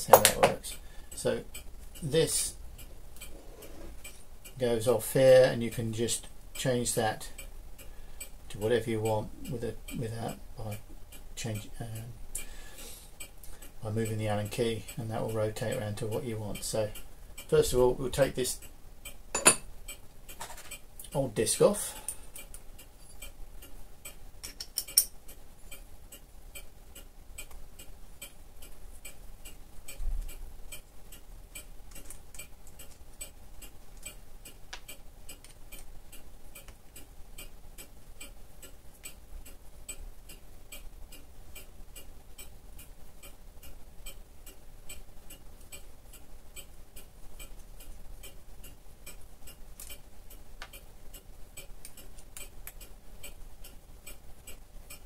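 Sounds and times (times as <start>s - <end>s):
clock ticking: 0.0s - 55.0s
faint steady hum: 0.0s - 55.0s.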